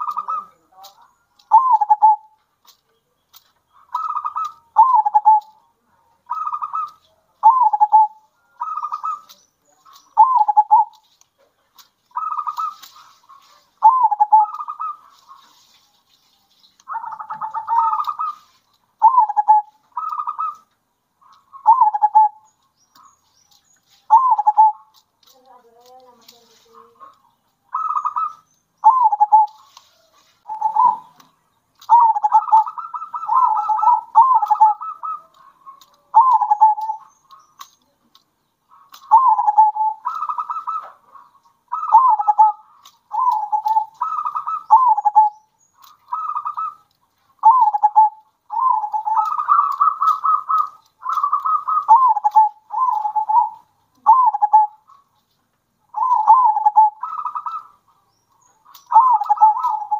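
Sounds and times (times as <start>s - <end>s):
doves cooing: 0.0s - 15.7s, 16.8s - 23.2s, 24.0s - 55.2s, 55.9s - 59.9s.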